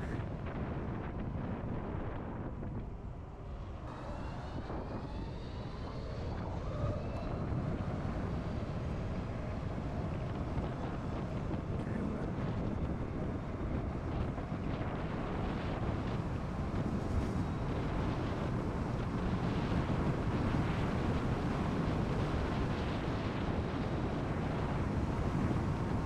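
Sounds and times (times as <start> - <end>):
motorcycle tyre noise: 0.0 - 26.0
wind rushing over microphone: 0.0 - 26.0.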